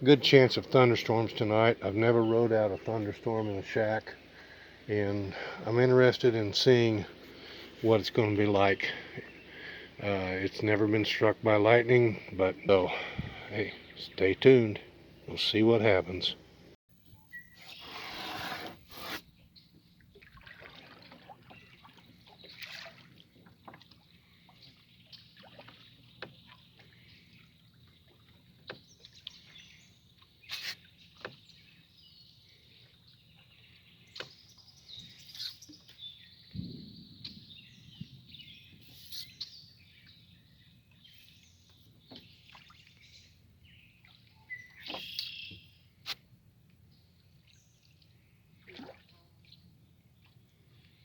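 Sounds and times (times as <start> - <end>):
birds calling: 0.0 - 16.6, 21.4 - 46.2.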